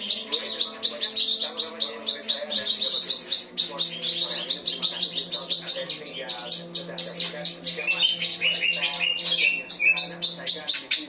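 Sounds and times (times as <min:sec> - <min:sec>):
bird chattering song: 0:00.0 - 0:11.0.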